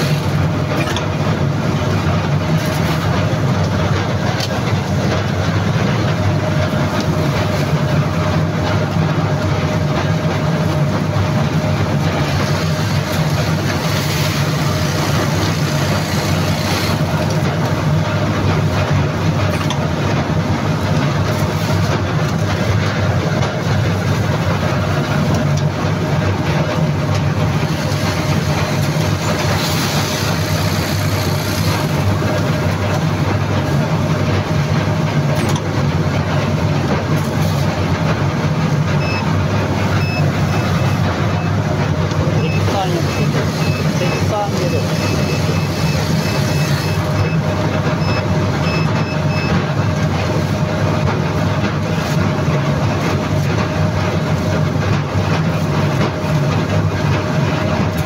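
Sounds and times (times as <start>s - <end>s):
machinery droning: 0.0s - 58.0s.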